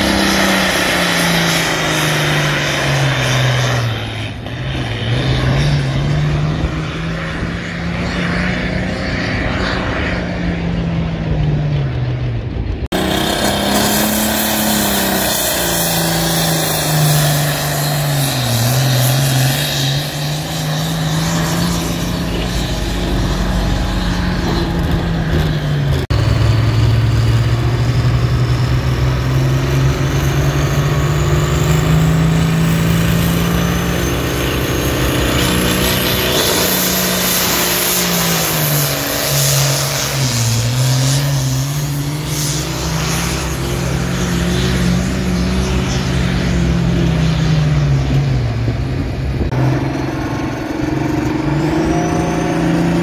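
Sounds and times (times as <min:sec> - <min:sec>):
diesel engines under full load: 0:00.0 - 0:53.0.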